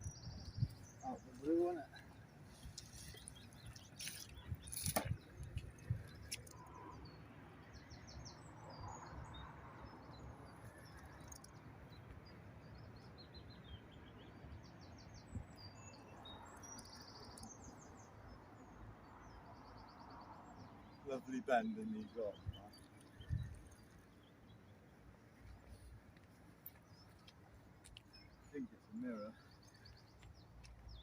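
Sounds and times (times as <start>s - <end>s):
songbirds singing trills: 0.0s - 31.0s.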